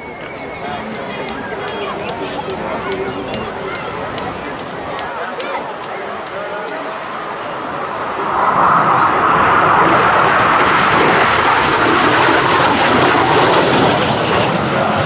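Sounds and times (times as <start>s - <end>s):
jet flying past: 0.0s - 15.0s.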